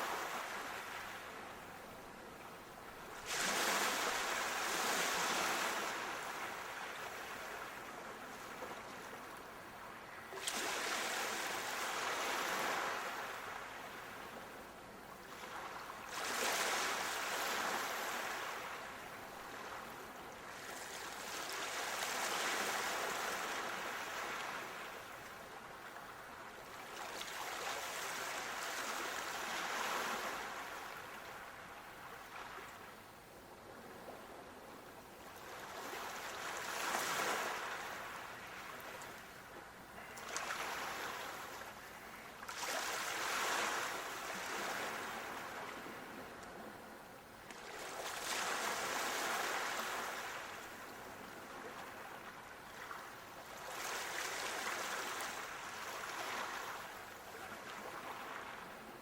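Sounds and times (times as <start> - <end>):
ocean waves washing ashore: 0.0 - 59.0.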